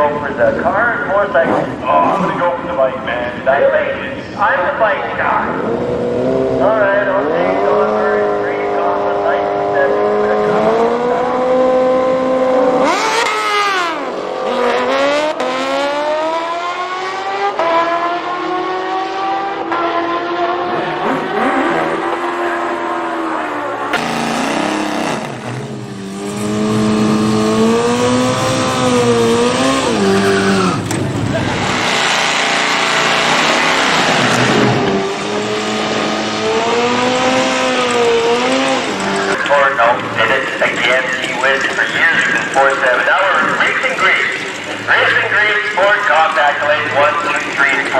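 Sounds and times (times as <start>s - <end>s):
racing engines at full throttle: 0.0s - 47.9s.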